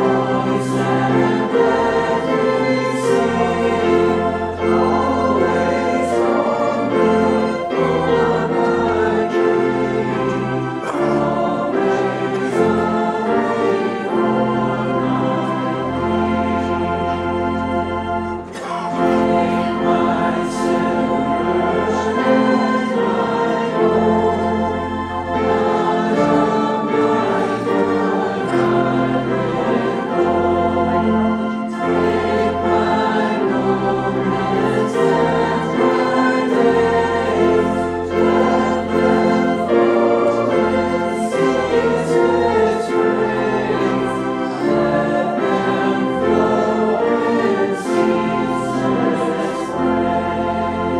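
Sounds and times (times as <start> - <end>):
congregation singing a hymn: 0.0 - 50.9
held accompanying chords: 0.0 - 50.9.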